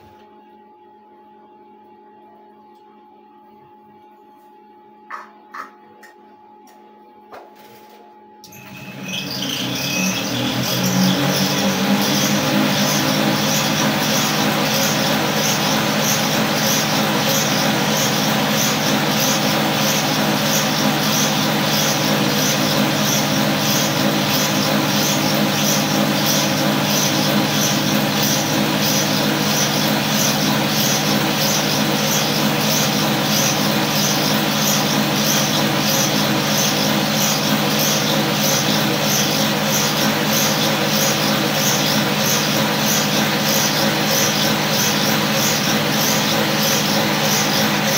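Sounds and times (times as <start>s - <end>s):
cotton candy machine whirring: 8.4s - 47.9s.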